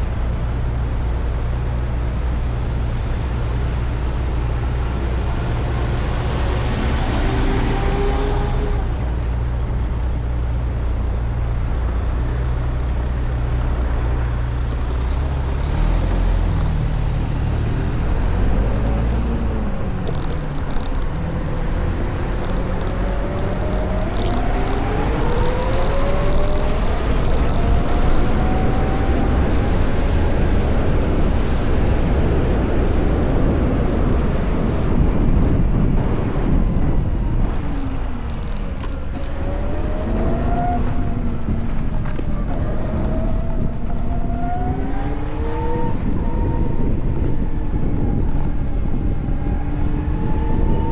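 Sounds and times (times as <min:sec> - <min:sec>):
city traffic rumble: 0:00.0 - 0:50.9
wind: 0:00.0 - 0:50.9.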